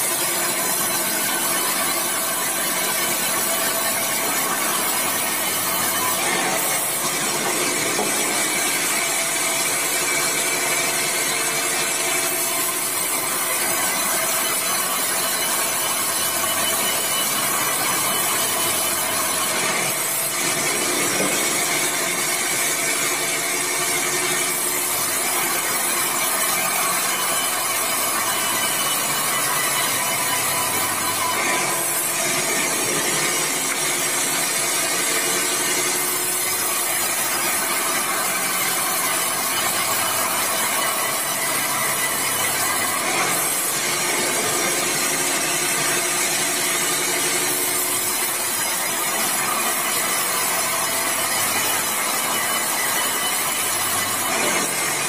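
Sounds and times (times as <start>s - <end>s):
band saw cutting timber: 0.0s - 55.0s
saw motor running: 0.0s - 55.0s.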